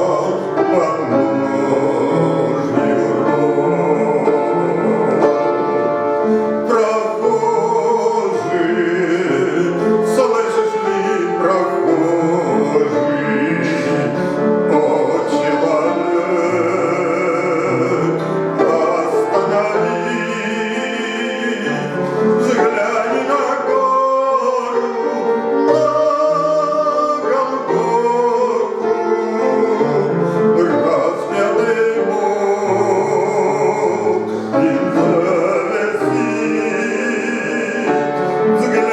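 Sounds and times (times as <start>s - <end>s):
instrumental accompaniment: 0.0s - 38.9s
man singing a hymn: 0.0s - 38.9s.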